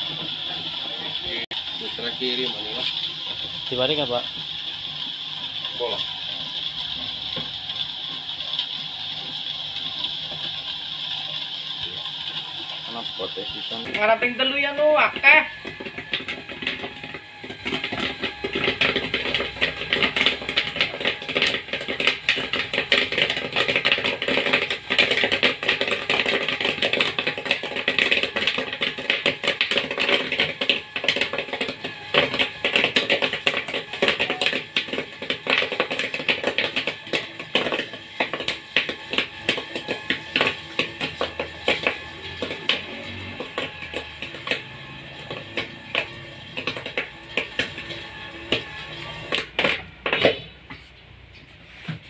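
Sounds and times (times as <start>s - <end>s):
popcorn popping in a machine: 0.0s - 50.7s.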